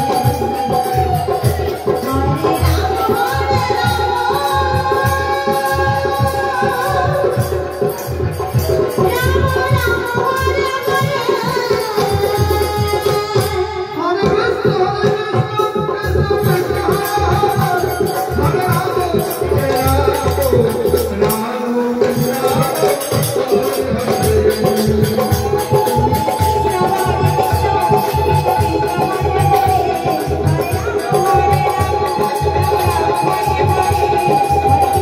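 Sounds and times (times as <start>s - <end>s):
hand drum: 0.0s - 35.0s
jingling percussion: 0.0s - 35.0s.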